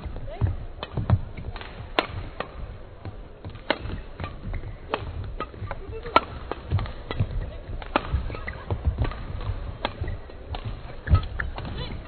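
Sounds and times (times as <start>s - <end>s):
footsteps on court: 0.0s - 12.0s
rackets hitting shuttlecock: 0.0s - 12.0s.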